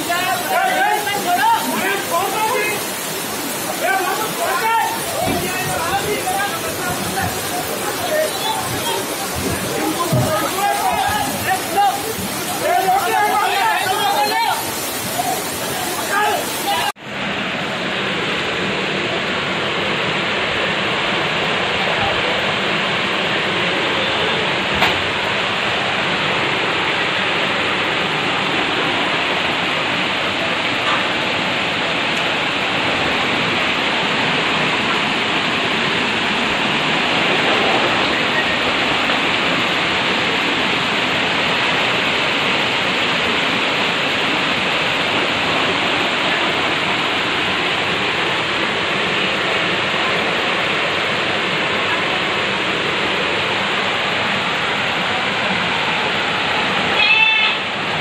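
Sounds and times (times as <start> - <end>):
floodwater rushing: 0.0 - 58.0
heavy rain: 0.0 - 58.0.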